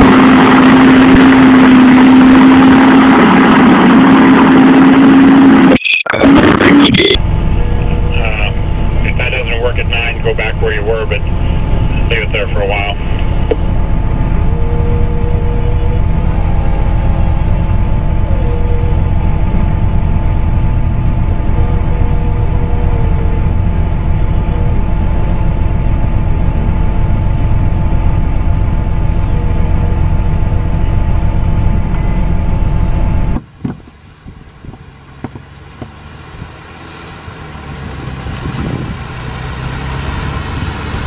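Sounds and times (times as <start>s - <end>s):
combine harvester engine running: 0.0s - 41.0s
quiet vehicle engine: 0.0s - 41.0s.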